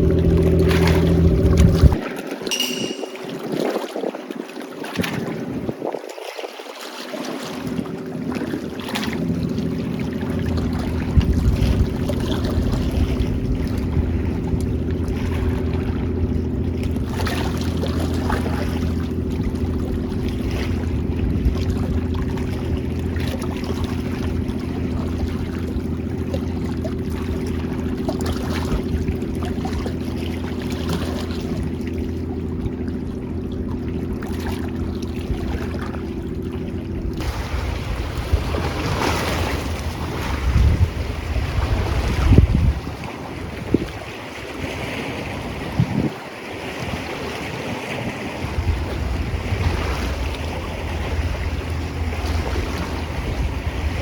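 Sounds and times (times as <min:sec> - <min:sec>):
engine hum: 0:00.0 - 0:02.0, 0:07.7 - 0:46.1, 0:48.4 - 0:54.0
sea water washing: 0:00.0 - 0:54.0
wind: 0:00.0 - 0:54.0.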